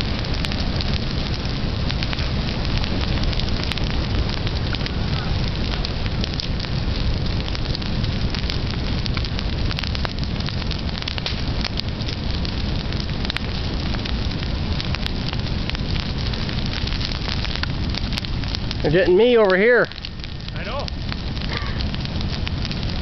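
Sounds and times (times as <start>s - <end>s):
burning wood crackling and popping: 0.0s - 23.0s
fire rushing: 0.0s - 23.0s.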